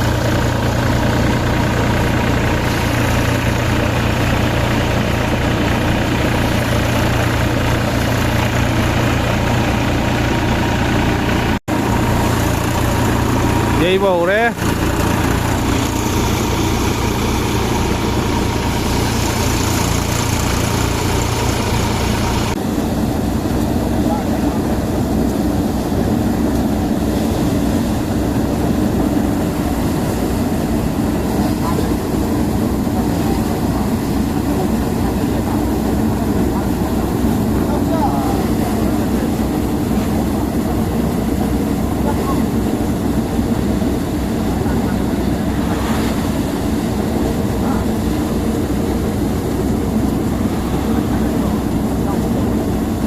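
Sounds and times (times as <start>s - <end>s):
harvester engine running: 0.0s - 53.0s.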